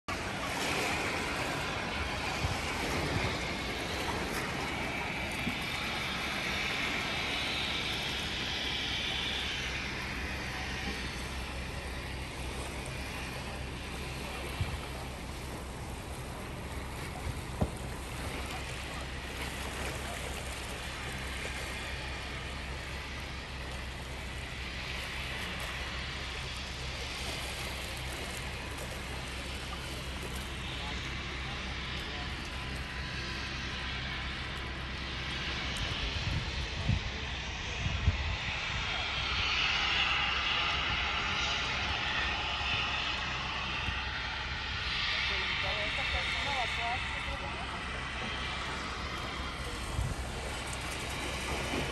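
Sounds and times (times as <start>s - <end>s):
small waves washing: 0.1s - 36.6s, 45.1s - 51.9s
wind gusting on microphone: 0.1s - 51.9s.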